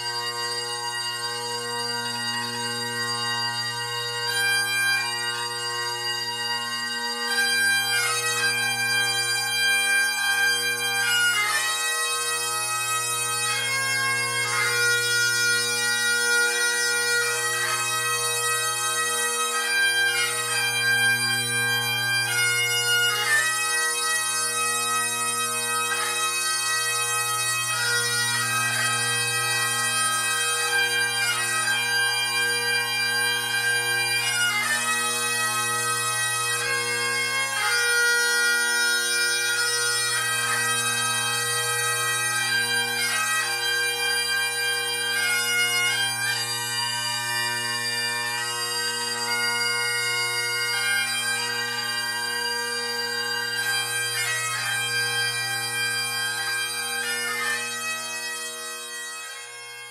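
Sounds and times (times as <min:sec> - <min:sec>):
bagpipes playing a melody: 0:00.0 - 0:59.9.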